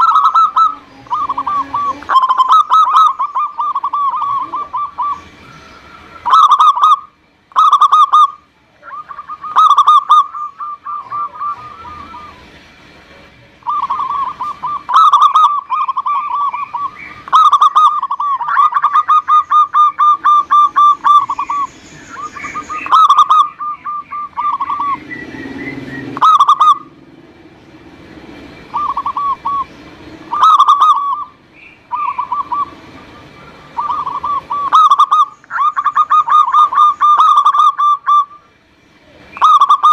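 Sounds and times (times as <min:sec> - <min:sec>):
dove cooing: 0:00.0 - 0:12.5, 0:13.2 - 0:27.3, 0:28.3 - 0:38.4, 0:39.3 - 0:39.9.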